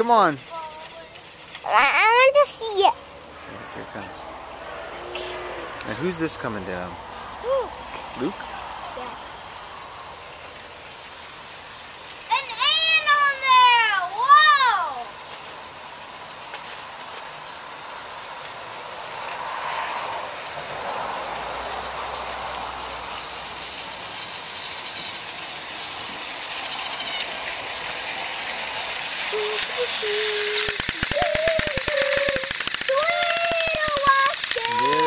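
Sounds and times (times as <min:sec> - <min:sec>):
rapid clicking of toy motor: 0:00.0 - 0:03.1, 0:05.2 - 0:35.0
toy train whirring on track: 0:00.0 - 0:35.0.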